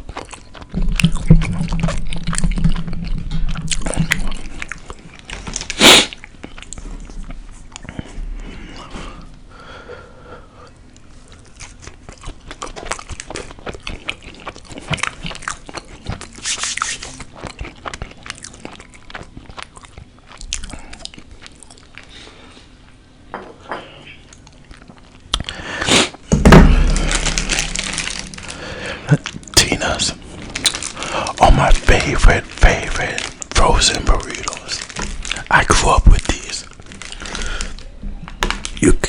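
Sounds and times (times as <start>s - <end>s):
biting and chewing food: 0.0s - 8.1s, 10.9s - 22.4s, 24.2s - 39.0s.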